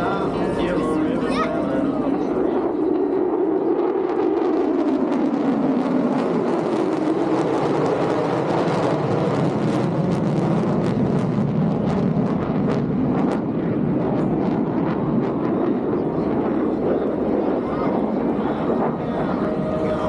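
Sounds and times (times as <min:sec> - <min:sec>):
jet passing overhead: 0:00.0 - 0:20.0.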